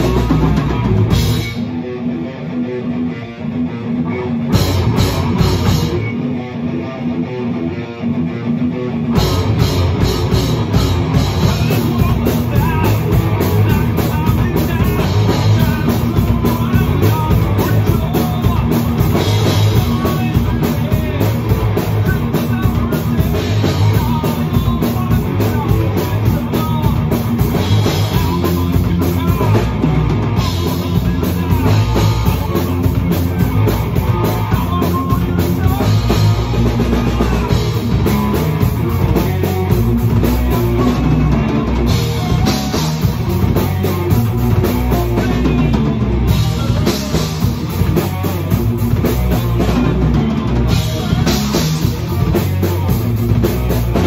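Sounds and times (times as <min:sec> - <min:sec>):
drum kit: 0:00.0 - 0:54.0
guitar: 0:00.0 - 0:54.0
heavy metal music: 0:00.0 - 0:54.0.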